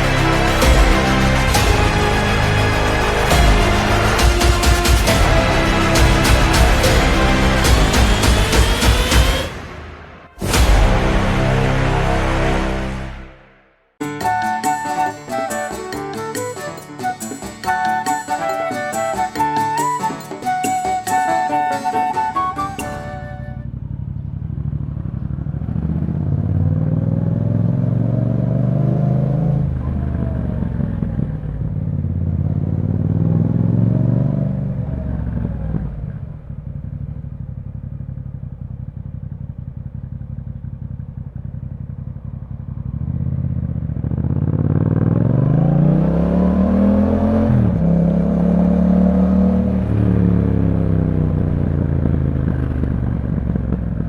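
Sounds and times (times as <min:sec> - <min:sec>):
motorcycle engine accelerating: 0:00.0 - 0:13.3, 0:23.1 - 0:54.0.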